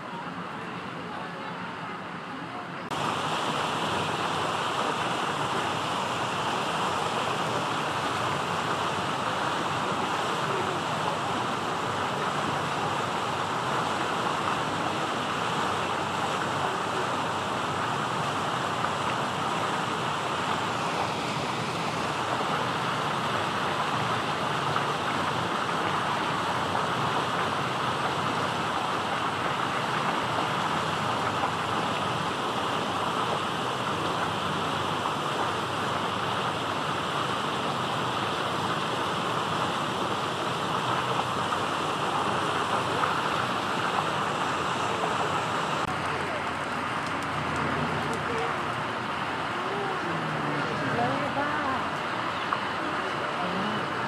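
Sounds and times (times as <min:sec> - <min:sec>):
steady rushing noise: 0:02.8 - 0:54.0.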